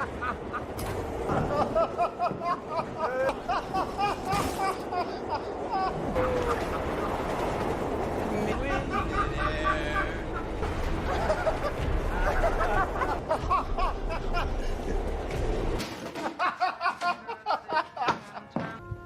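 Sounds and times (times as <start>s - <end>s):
low traffic rumble: 0.0s - 15.8s.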